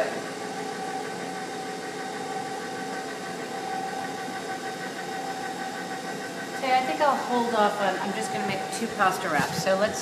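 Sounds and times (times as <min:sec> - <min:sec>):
stand mixer motor whining: 0:00.0 - 0:10.0.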